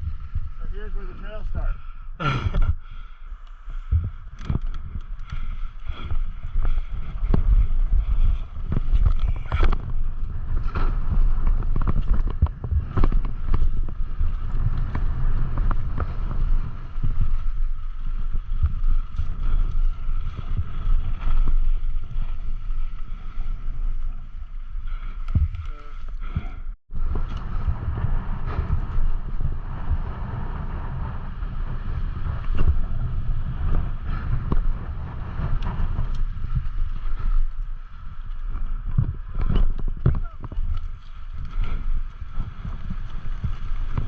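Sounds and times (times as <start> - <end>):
steady rumble: 0.0 - 44.0
wind buffeting microphone: 0.0 - 44.0
bike clicks and rattles: 2.2 - 29.5, 31.4 - 44.0.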